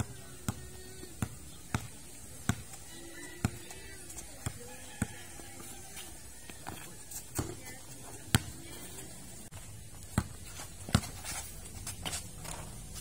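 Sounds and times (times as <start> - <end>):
basketball bouncing on concrete: 0.0 - 13.0.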